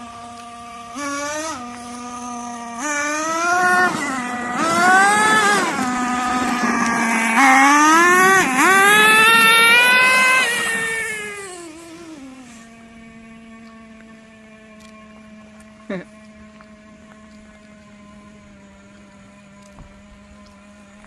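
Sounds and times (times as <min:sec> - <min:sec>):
small gas engine buzzing: 0:00.0 - 0:21.0.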